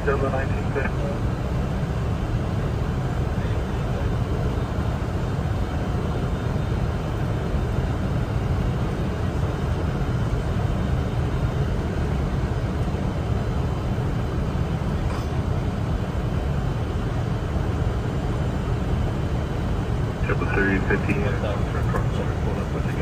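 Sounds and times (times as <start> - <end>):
airflow and engine rumble: 0.0 - 23.0.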